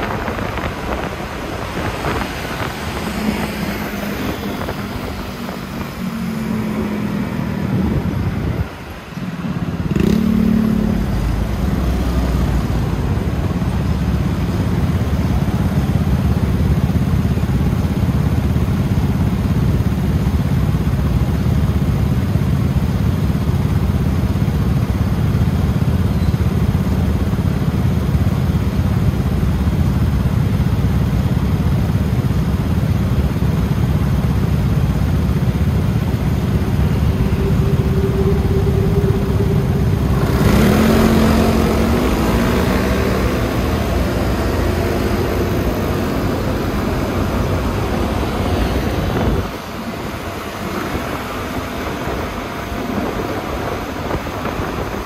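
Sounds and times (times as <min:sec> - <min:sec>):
motor scooter engine running: 0:00.0 - 0:55.0
road and wind noise: 0:00.0 - 0:55.0.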